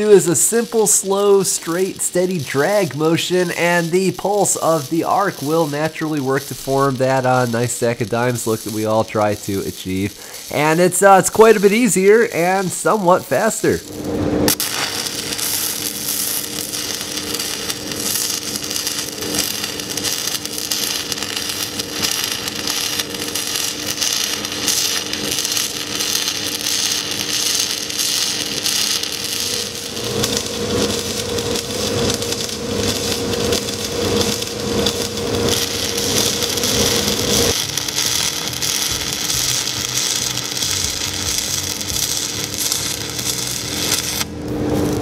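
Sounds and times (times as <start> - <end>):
welding arc crackling and sizzling: 0.0 - 45.0.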